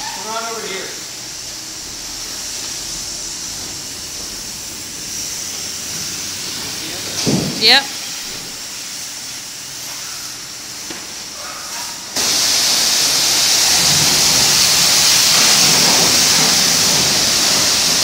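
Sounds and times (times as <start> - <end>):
high-pressure water spray hitting car: 1.3 - 11.1, 11.8 - 18.0.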